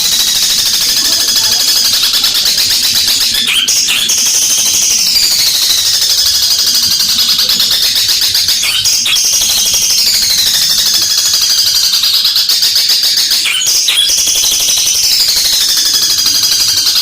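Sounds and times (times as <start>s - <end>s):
bird singing harsh high notes: 0.0s - 17.0s.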